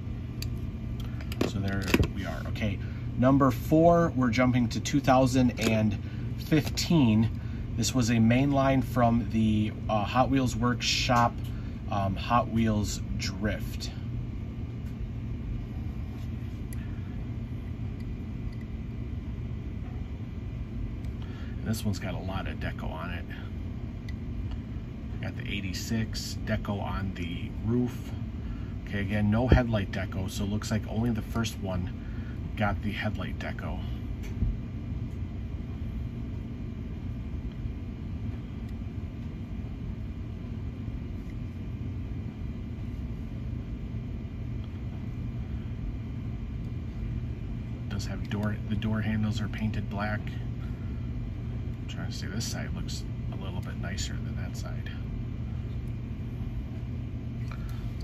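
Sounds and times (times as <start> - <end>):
faint hum: 0.0 - 58.0
low room rumble: 0.0 - 58.0.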